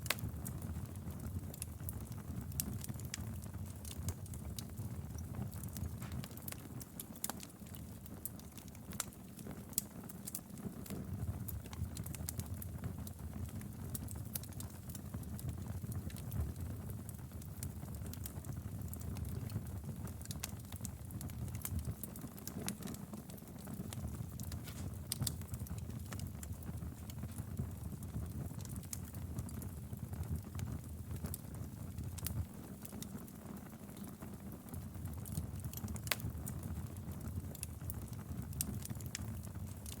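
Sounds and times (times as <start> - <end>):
fire crackling and popping: 0.0 - 40.0
fire low rumble: 0.0 - 40.0.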